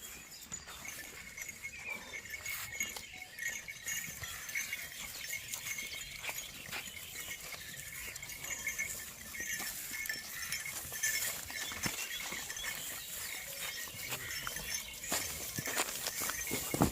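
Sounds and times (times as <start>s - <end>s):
high chirping: 0.0s - 16.9s
hooves knocking and tapping: 0.0s - 16.9s.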